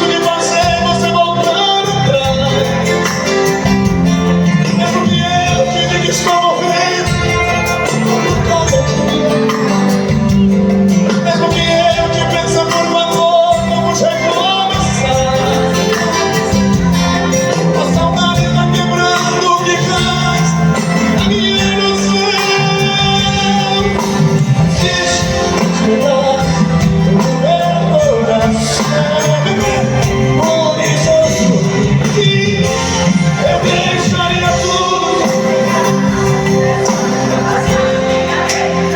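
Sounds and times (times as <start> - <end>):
live band playing country music: 0.0 - 38.9
person singing: 0.0 - 38.9.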